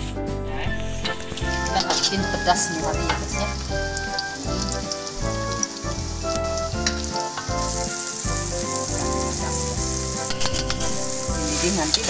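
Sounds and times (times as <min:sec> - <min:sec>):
background music: 0:00.0 - 0:12.0
food sizzling in oil: 0:00.8 - 0:12.0.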